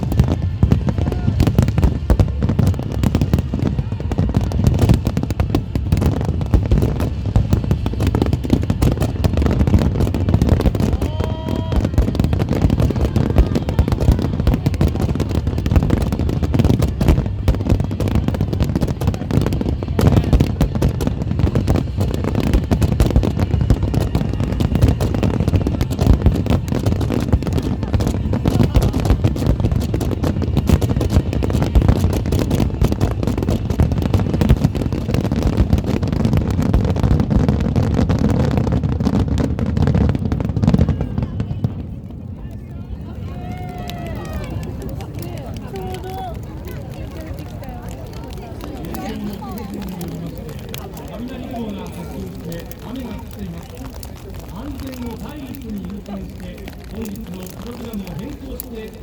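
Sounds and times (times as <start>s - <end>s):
heavy rain: 0.0s - 42.0s, 42.9s - 59.0s
fireworks crackling and rumbling: 0.0s - 59.0s.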